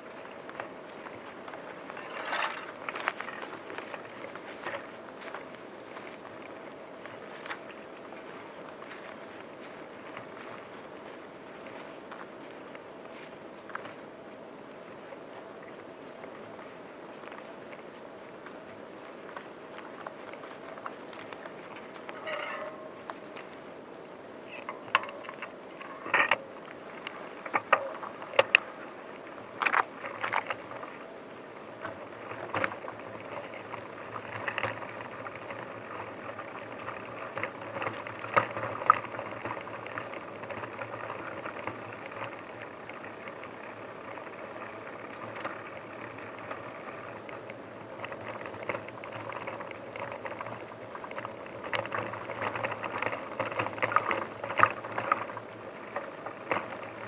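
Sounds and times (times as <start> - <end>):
bicycle rattling over rough ground: 0.0 - 57.0.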